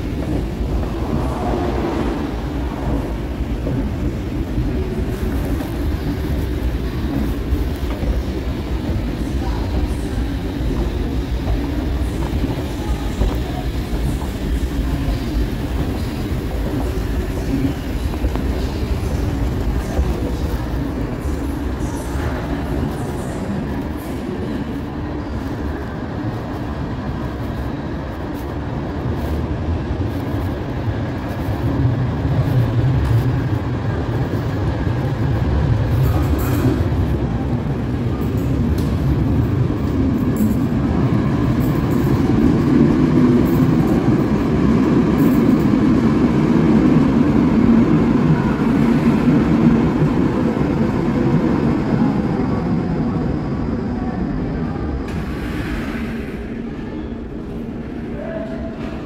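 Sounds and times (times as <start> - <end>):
subway train running: 0.0 - 59.0.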